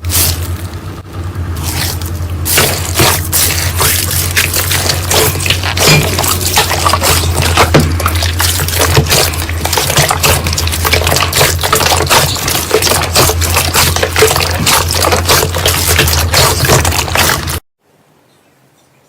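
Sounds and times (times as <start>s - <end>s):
steady low hum: 0.0s - 17.6s
slime crackling and popping: 1.6s - 17.6s.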